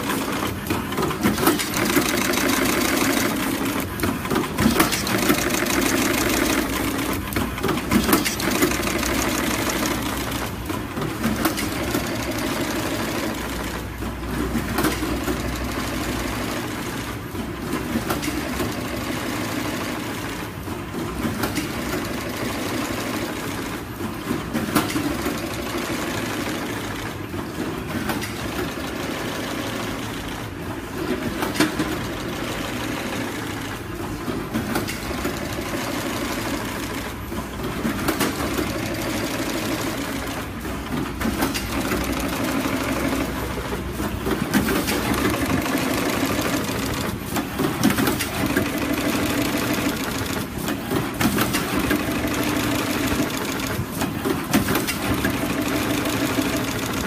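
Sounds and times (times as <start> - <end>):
machine clacking: 0.0 - 57.0.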